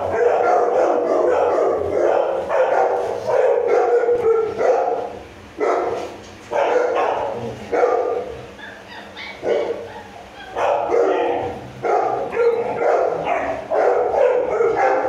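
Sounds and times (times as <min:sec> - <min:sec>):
puppy barking: 0:00.0 - 0:15.0.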